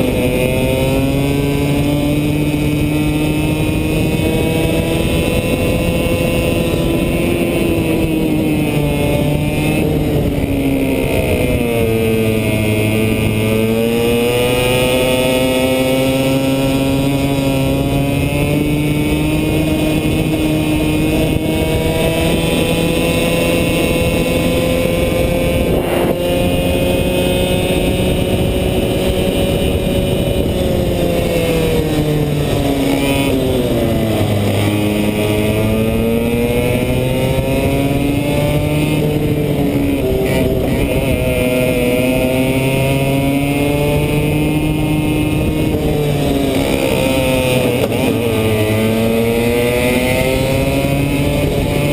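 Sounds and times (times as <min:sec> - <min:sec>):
kart engine at high revs: 0:00.0 - 0:51.9.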